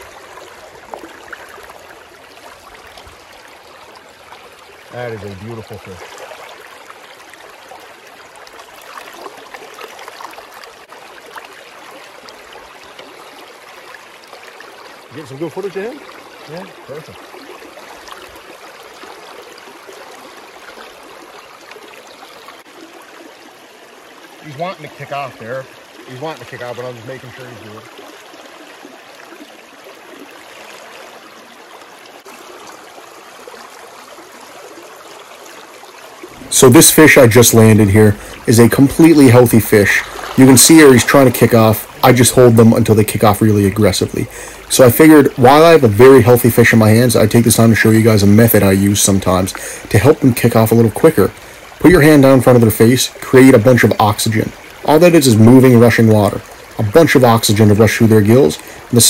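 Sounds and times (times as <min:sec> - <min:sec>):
babbling water trickle: 0:00.0 - 0:59.0
river current running: 0:00.0 - 0:59.0.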